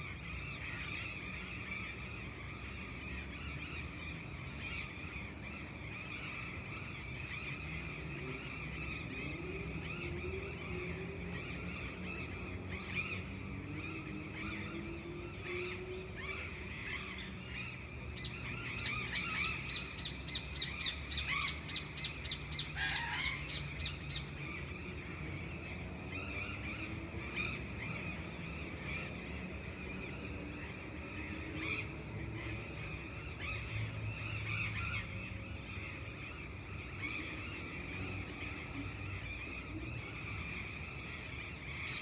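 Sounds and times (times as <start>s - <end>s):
distant motor traffic hum: 0.0s - 42.0s.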